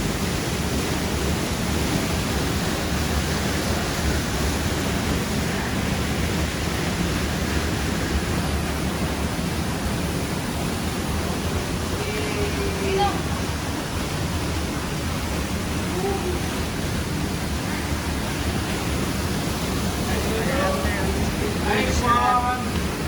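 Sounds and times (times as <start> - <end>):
waterfall roaring into pool: 0.0 - 23.0.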